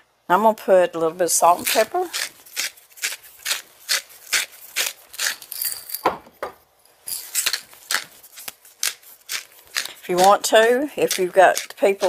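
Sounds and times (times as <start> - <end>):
pepper mill grinding: 1.0 - 6.1, 6.8 - 12.0.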